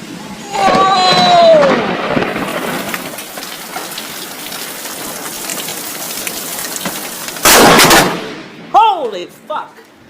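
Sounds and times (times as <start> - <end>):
heavy rain falling: 0.0 - 8.4.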